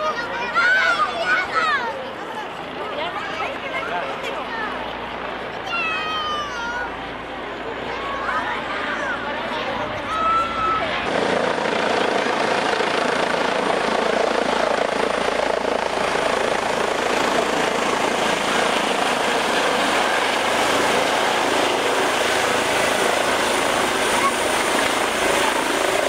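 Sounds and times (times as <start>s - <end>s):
helicopter rotor and turbine noise: 0.0s - 26.0s.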